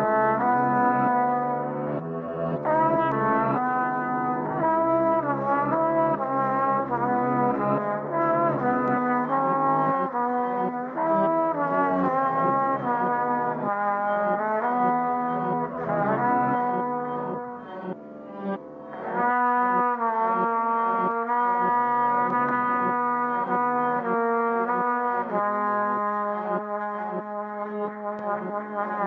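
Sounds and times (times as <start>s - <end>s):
brass chords: 0.0s - 29.0s.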